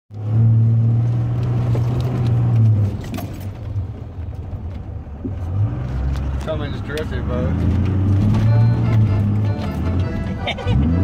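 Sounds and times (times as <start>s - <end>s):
diesel truck engine from inside cab: 0.1s - 11.0s.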